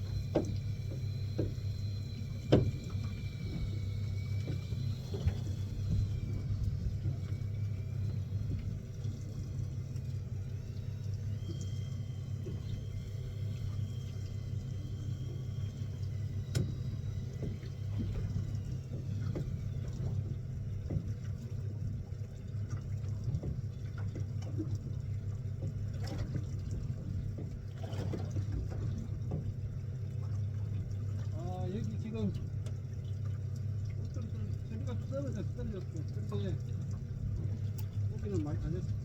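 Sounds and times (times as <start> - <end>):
boat engine humming: 0.0 - 39.0
water sloshing: 0.0 - 39.0.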